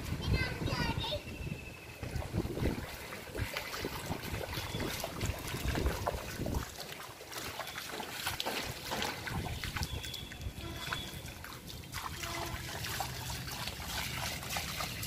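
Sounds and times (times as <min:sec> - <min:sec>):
bare feet splashing in water: 0:01.8 - 0:15.0
water trickling: 0:01.8 - 0:15.0.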